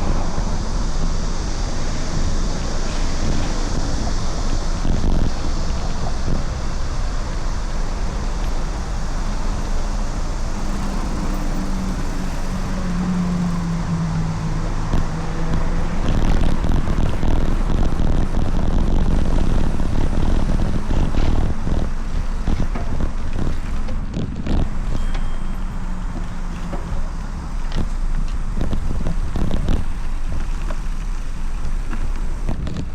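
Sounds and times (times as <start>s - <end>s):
low engine-like hum: 0.0s - 32.9s
road rumble: 0.0s - 32.9s
wind rushing over microphone: 0.0s - 32.9s.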